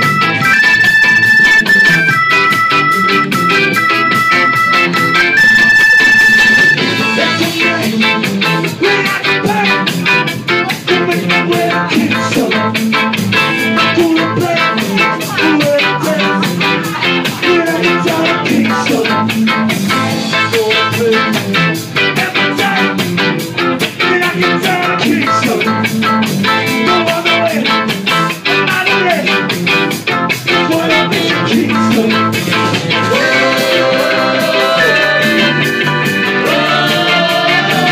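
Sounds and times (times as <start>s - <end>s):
bass guitar: 0.0s - 37.9s
drum kit: 0.0s - 37.9s
electric guitar: 0.0s - 37.9s
person singing: 5.2s - 23.3s, 23.9s - 29.4s, 30.5s - 37.9s.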